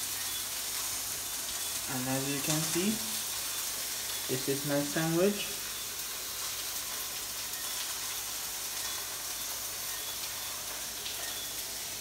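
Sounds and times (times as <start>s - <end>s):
food frying sizzling: 0.0s - 12.0s.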